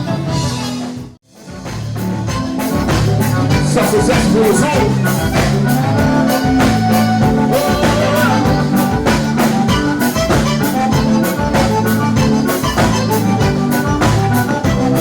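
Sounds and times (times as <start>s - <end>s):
dance band playing: 0.0s - 15.0s
steady drum beat: 1.0s - 15.0s.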